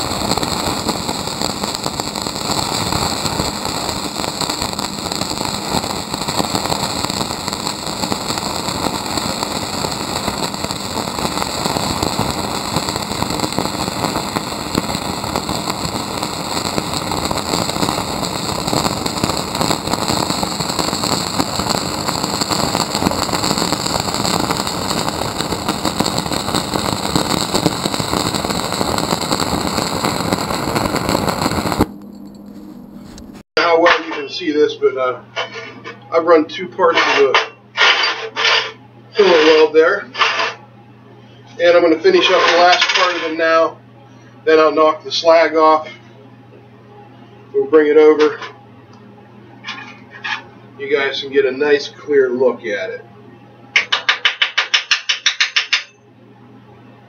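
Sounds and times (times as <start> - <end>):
welding arc crackling: 0.0 - 40.6, 41.6 - 43.8, 49.6 - 52.0, 53.8 - 56.0.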